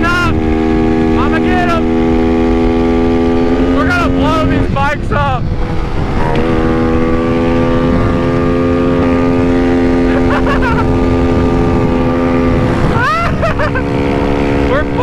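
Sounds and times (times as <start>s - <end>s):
small motorbike engine high revs: 0.0s - 4.7s, 5.4s - 15.0s
wind noise on microphone: 0.0s - 15.0s.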